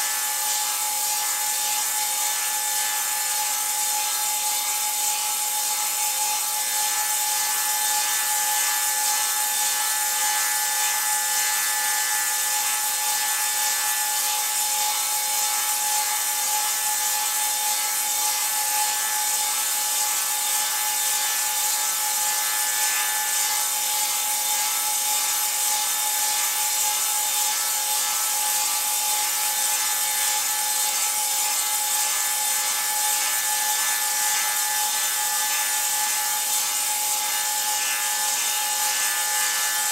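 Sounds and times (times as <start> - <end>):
saw cutting wood: 0.0 - 39.9.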